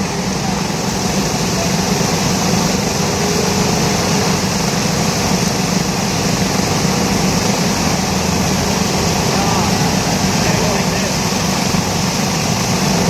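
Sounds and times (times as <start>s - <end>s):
small boat engines droning: 0.0s - 13.0s.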